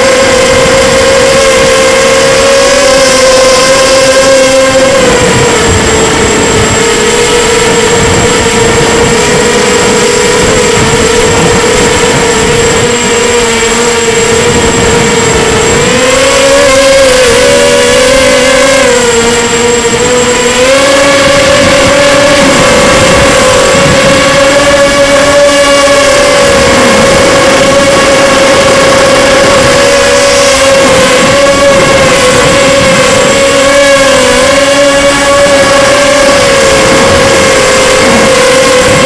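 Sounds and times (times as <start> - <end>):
drone motors and propellers whining: 0.0 - 39.0.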